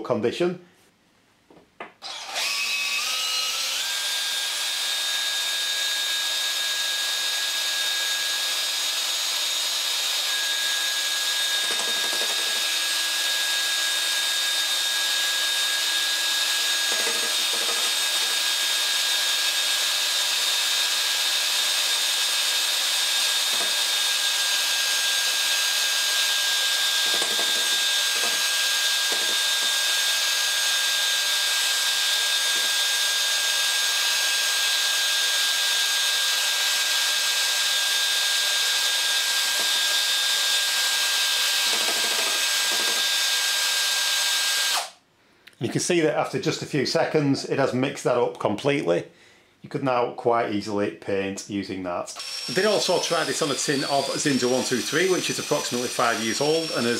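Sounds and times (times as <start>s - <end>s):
electric drill whine: 2.0s - 45.0s, 52.2s - 56.9s.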